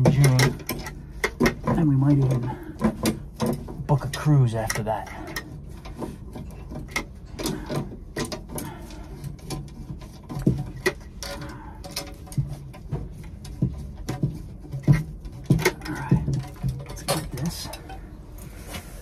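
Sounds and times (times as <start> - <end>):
tubing cutter clicking and scraping: 0.0 - 18.1.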